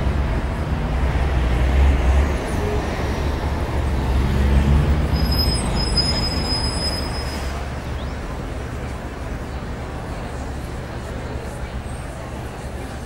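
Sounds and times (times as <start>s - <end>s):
street traffic rumble: 0.0s - 13.0s
tram passing: 0.0s - 13.0s.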